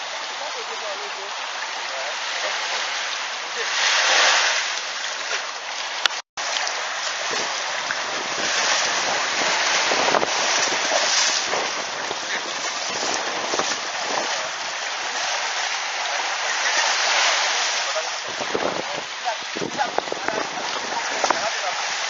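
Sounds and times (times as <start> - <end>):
shallow water splashing: 0.0 - 22.0
small waves washing: 0.0 - 22.0.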